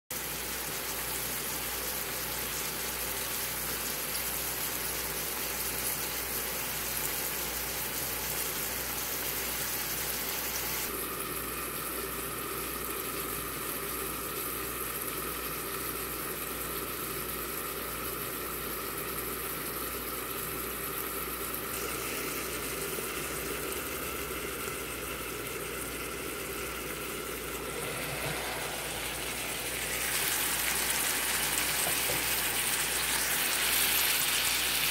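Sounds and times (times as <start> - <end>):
food sizzling in frying pan: 0.1 - 34.9.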